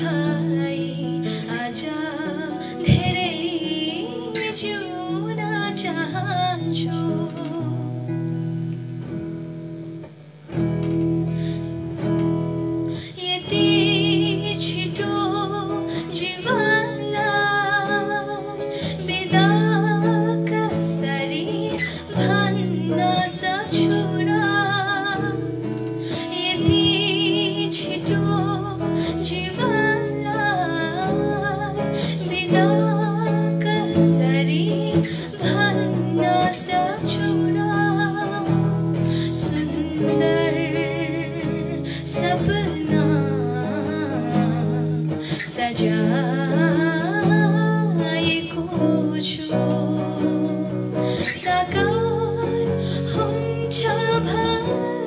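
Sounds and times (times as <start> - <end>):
girl singing: 0.0 - 8.1, 12.9 - 55.0
acoustic guitar: 0.0 - 55.0.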